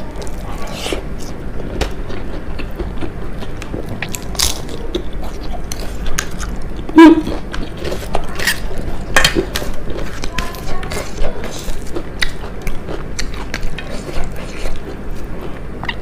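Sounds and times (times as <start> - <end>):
chewing crunchy fried food: 0.0 - 16.0.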